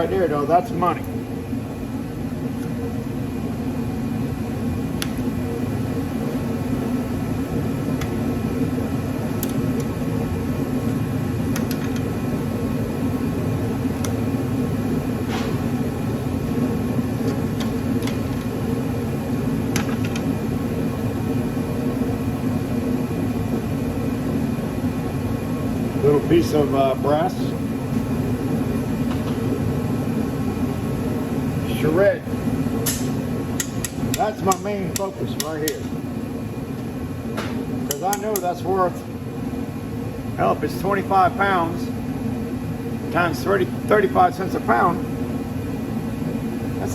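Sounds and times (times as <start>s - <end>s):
shop heater humming drone: 0.0s - 46.9s.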